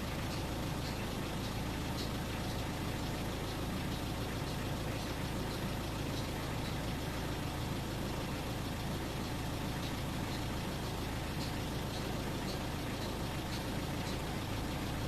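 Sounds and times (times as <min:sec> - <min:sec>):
car engine hum from cabin: 0:00.0 - 0:15.0
faint light ticks: 0:00.1 - 0:07.2, 0:09.1 - 0:14.8.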